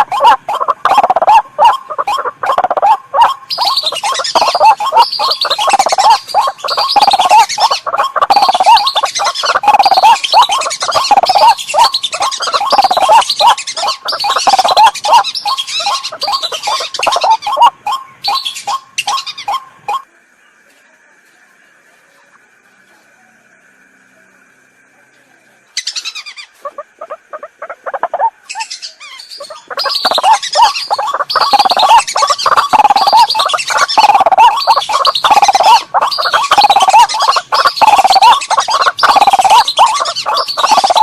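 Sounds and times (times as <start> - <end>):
rapid croaking bird calls: 0.0 - 20.1, 25.7 - 41.0.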